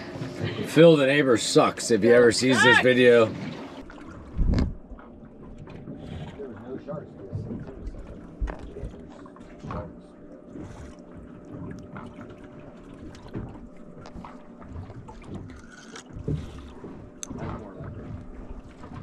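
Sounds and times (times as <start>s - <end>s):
water sloshing against hull: 0.0s - 19.0s.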